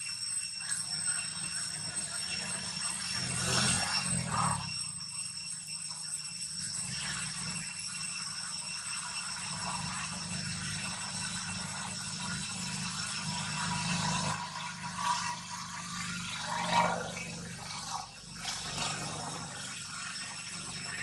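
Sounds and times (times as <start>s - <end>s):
high-pitched hum: 0.0s - 21.0s.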